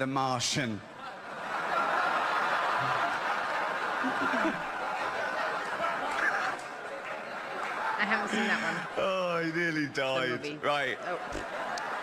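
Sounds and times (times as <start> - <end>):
large audience laughing: 1.0 - 12.0.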